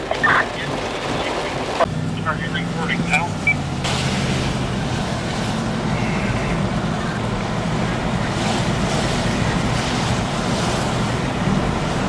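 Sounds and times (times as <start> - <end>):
wind roaring over microphone: 0.0 - 12.0.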